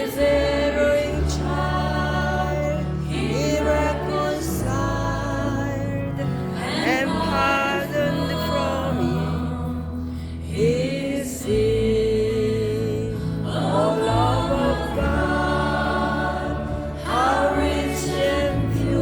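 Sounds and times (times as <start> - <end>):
sustained accompaniment chords: 0.0 - 19.0
voices singing gospel hymn: 0.0 - 19.0.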